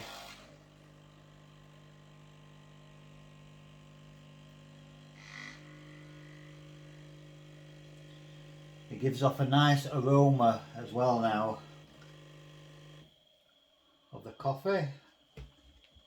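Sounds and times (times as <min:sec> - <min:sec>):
coffee machine pump hum: 0:00.0 - 0:16.0.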